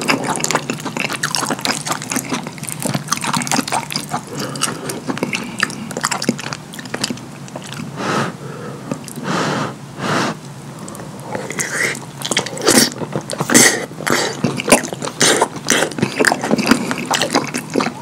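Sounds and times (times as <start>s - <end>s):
utensil squelching through lasagna: 0.0s - 18.0s.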